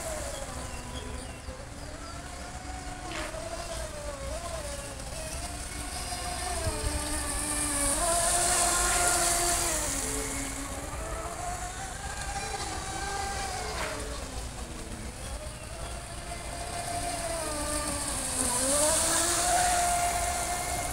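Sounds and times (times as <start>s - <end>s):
remote-control boat whining: 0.0s - 20.9s.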